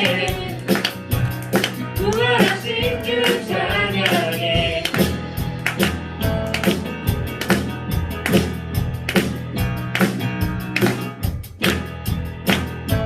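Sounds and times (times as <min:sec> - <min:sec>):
congregation clapping: 0:00.0 - 0:12.9
upbeat worship song with guitar: 0:00.0 - 0:13.0.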